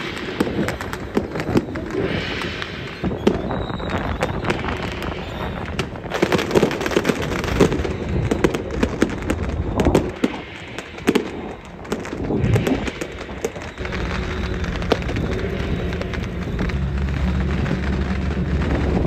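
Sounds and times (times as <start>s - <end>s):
firecrackers popping: 0.0s - 19.0s.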